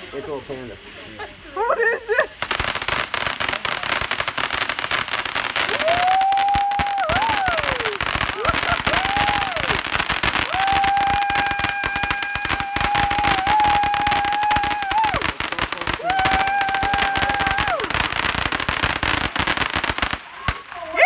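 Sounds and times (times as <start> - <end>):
firework sparks crackling: 0.0 - 21.0.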